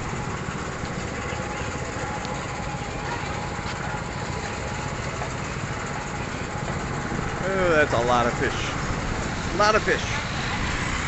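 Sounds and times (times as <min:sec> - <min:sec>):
outdoor market noise: 0:00.0 - 0:11.0
small engine rumbling: 0:00.0 - 0:11.0.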